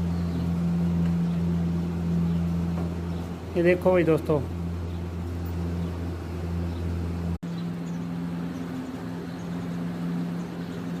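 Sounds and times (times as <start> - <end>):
higher-pitched steady hum: 0.0 - 11.0
steady mechanical hum: 0.0 - 11.0.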